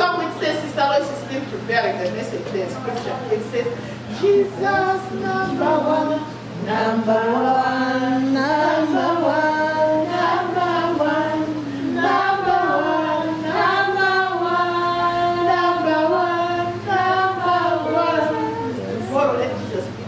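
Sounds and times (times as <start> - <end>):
low electrical hum: 0.0 - 20.0
woman singing: 3.4 - 20.0.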